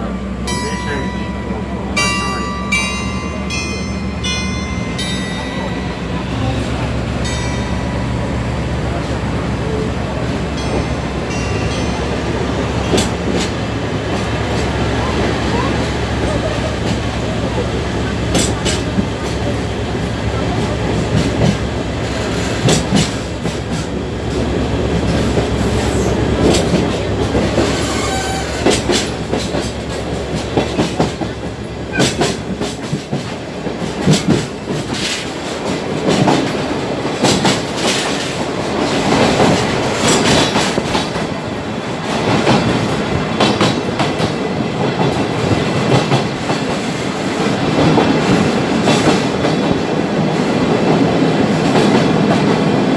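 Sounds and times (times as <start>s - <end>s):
train wheels clattering on rails: 0.0s - 52.9s.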